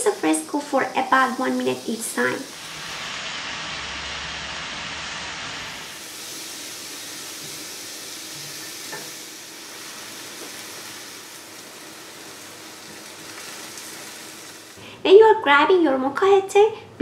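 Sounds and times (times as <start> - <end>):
food sizzling on grill pan: 0.0 - 14.8.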